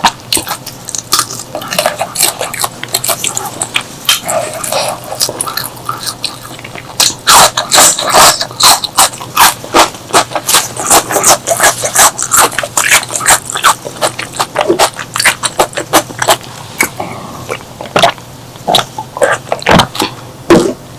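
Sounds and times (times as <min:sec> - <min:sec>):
person chewing with mouth clicks: 0:00.0 - 0:20.8.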